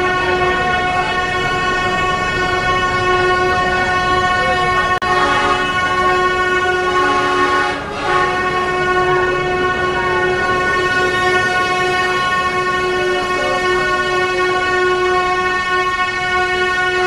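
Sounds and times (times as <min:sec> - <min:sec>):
diesel train horn drone: 0:00.0 - 0:17.0
lower horn tone: 0:00.0 - 0:17.0.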